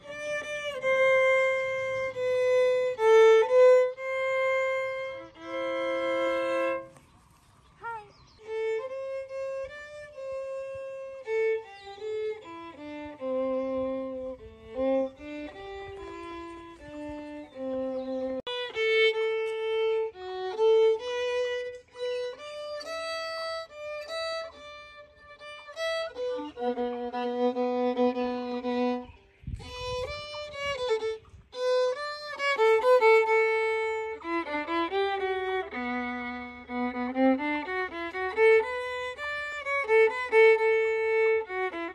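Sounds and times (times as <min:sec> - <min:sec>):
solo violin melody: 0:00.0 - 0:07.2, 0:07.8 - 0:41.9.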